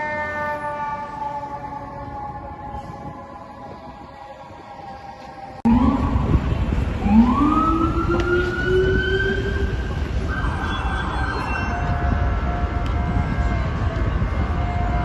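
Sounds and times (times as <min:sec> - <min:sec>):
fire truck siren wailing: 0:00.0 - 0:15.0
low rumble of fire truck: 0:00.0 - 0:15.0.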